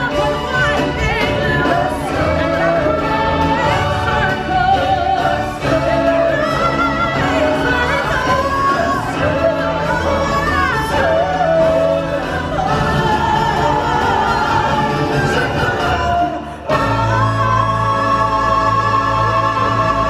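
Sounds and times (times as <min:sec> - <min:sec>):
singers performing with accompaniment: 0:00.0 - 0:20.0.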